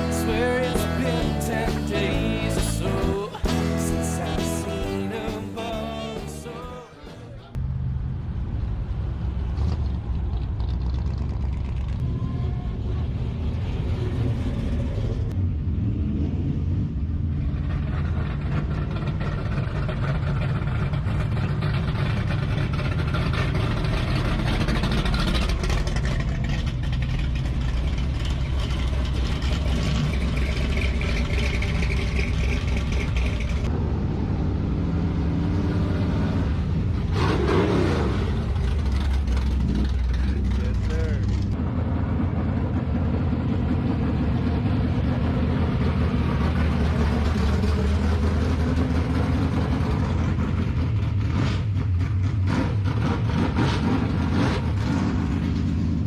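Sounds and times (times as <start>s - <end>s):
car engines passing: 6.0s - 56.0s.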